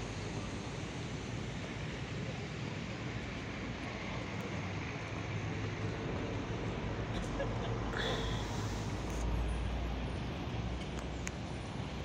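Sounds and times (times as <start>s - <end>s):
low rumble of buses and traffic: 0.0s - 12.0s.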